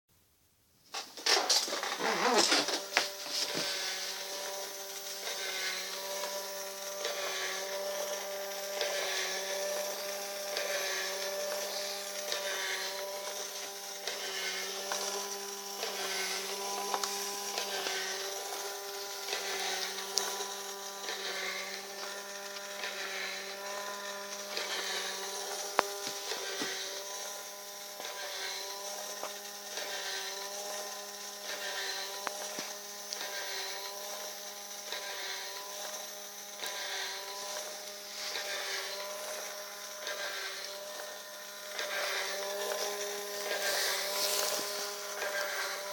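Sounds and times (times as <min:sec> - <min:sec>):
small gear motor whirring: 0:01.2 - 0:45.9.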